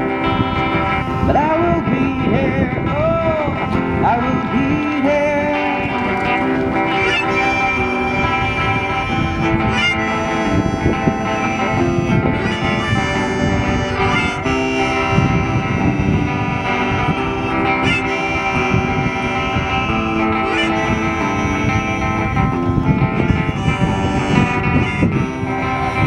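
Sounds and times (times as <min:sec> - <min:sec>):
electric guitar: 0:00.0 - 0:26.0.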